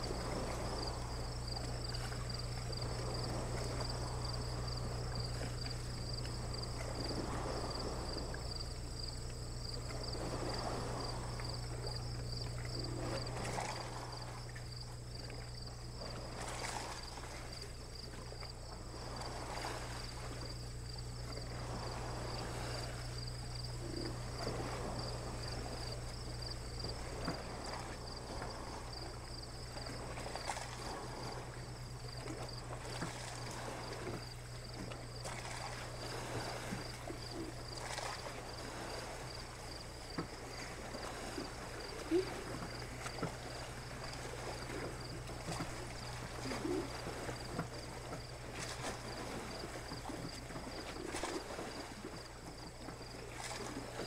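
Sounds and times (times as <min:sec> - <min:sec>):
water lapping: 0:00.0 - 0:54.0.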